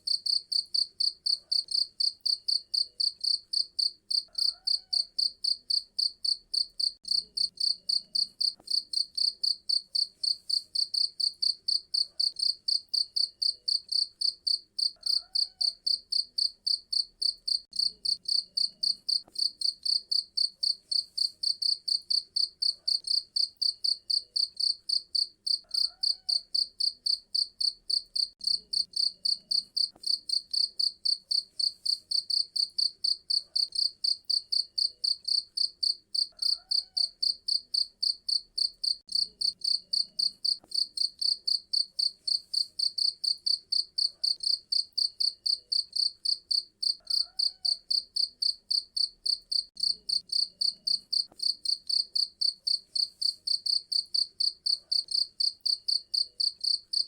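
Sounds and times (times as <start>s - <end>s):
cricket chirping: 0.1s - 57.0s.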